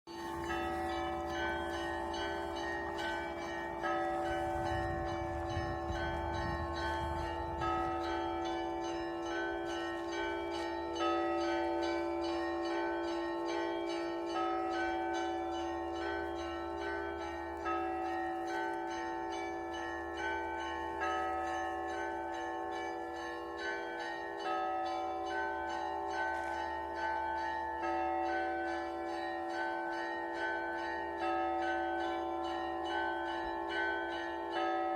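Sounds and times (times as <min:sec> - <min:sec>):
hum of large bells: 0:00.1 - 0:34.9
small church bells ringing: 0:00.1 - 0:34.9.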